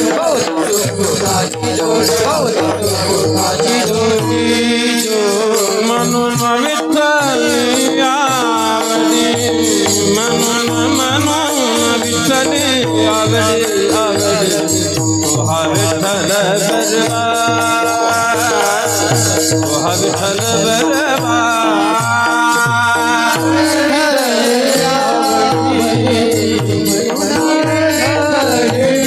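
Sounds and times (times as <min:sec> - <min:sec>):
drum beating: 0:00.0 - 0:29.0
man singing melismatic runs: 0:00.0 - 0:29.0.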